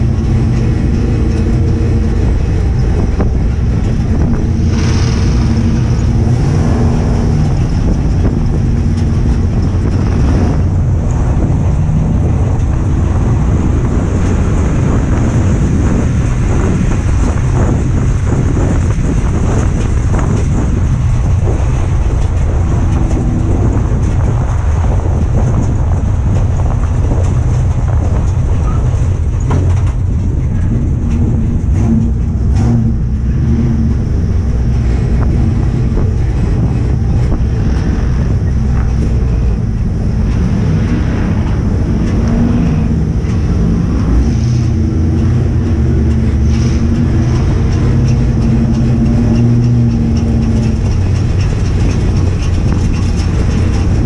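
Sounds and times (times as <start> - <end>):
race car engine running hard: 0.0 - 54.0
wind and road noise: 0.0 - 54.0.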